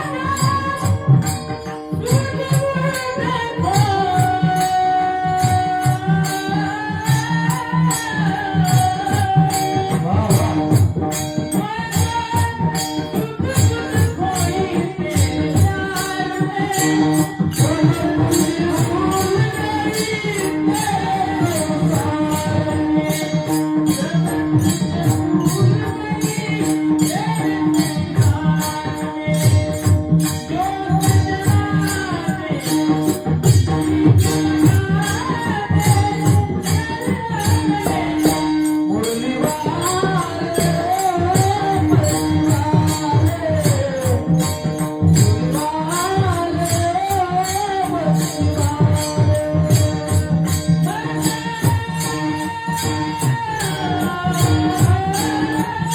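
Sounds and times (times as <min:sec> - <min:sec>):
hand cymbal strikes: 0:00.0 - 0:55.9
man singing devotional song: 0:00.0 - 0:55.9.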